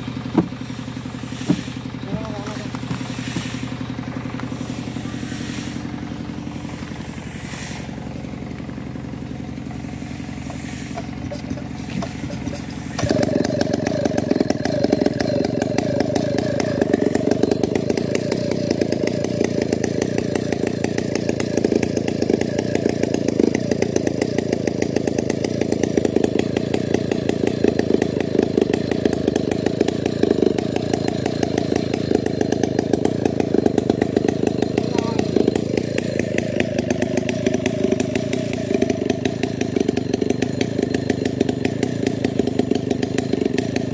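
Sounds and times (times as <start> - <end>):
chainsaw engine idling and revving: 0.0 - 43.9.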